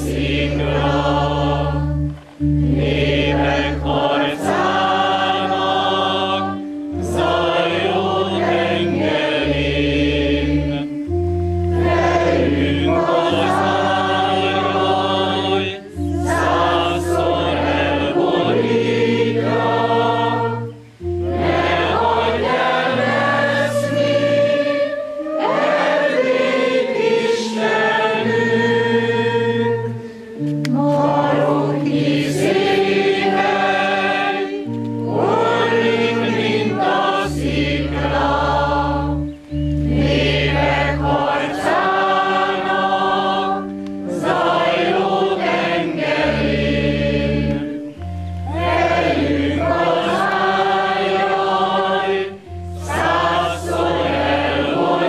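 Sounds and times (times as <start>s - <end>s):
held bass notes: 0.0s - 55.0s
many voices singing a hymn: 0.0s - 55.0s.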